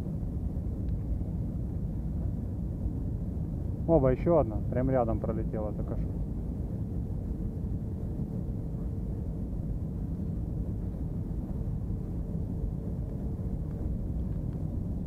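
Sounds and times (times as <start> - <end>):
aircraft cabin engine roar: 0.0 - 15.0
faint steady hum: 0.0 - 15.0.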